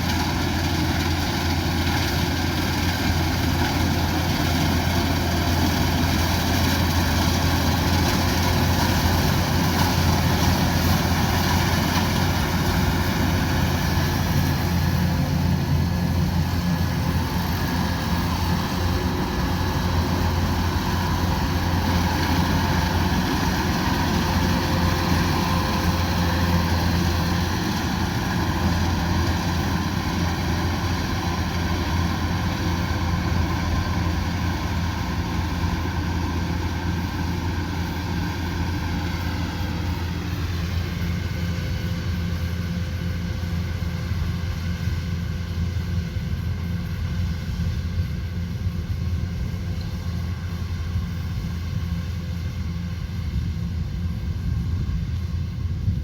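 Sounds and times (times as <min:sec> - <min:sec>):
deep engine drone: 0:00.0 - 0:56.0.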